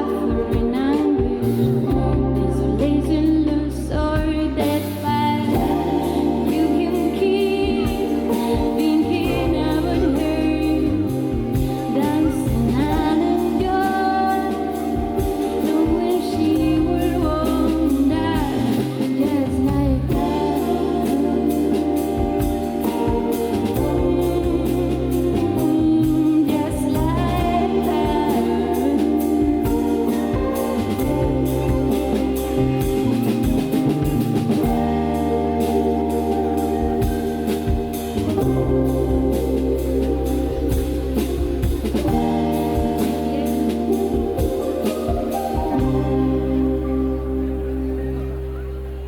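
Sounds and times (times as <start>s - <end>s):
steady drum beat: 0.0s - 3.3s, 3.9s - 47.1s
person singing: 0.0s - 48.9s
bass line: 0.0s - 49.0s
live band music: 0.0s - 49.0s.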